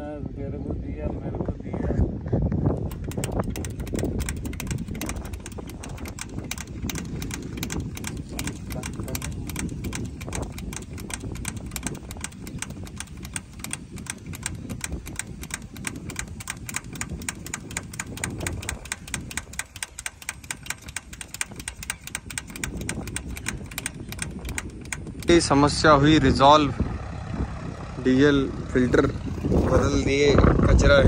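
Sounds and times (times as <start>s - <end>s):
tractor diesel engine running: 2.7s - 30.4s.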